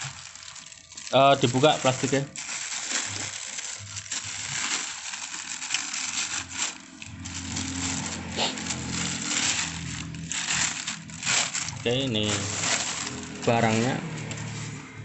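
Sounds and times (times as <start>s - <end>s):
low steady hum: 0.0s - 15.0s
plastic bag crinkling: 0.0s - 15.0s.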